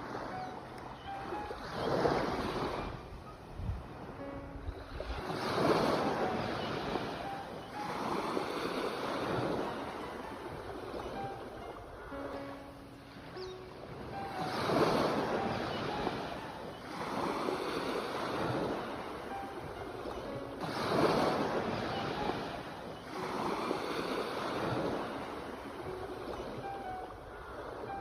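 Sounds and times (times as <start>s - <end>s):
ocean waves washing onto shore: 0.0s - 28.0s.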